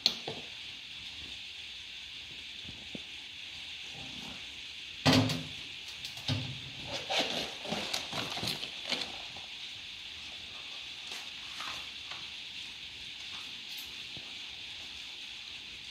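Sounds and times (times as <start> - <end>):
steady background hiss: 0.0 - 15.9.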